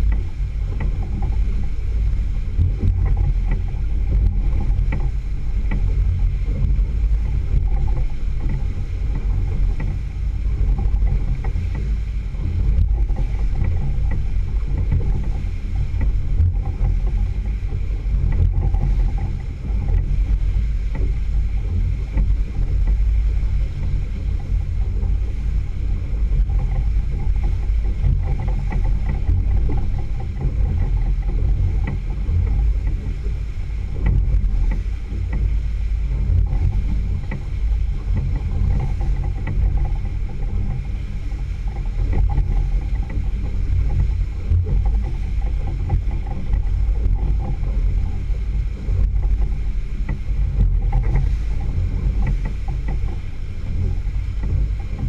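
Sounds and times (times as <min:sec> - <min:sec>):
outboard motor running: 0:00.0 - 0:55.0
water rushing along hull: 0:00.0 - 0:55.0
wind buffeting microphone: 0:00.0 - 0:55.0.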